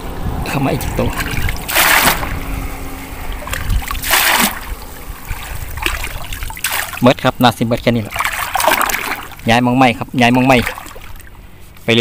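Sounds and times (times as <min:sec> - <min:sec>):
net swishing through pond water: 0:00.7 - 0:07.2, 0:08.0 - 0:09.5, 0:10.2 - 0:12.0.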